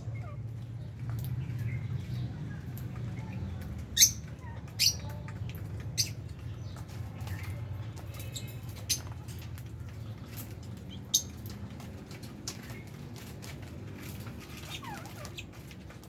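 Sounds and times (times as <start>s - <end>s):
lovebirds chirping: 0.0s - 11.7s, 14.4s - 15.8s.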